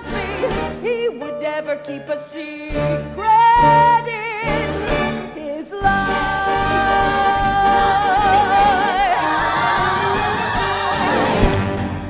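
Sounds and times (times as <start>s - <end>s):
woman singing with vibrato: 0.0s - 11.2s
pit orchestra playing: 0.0s - 12.0s.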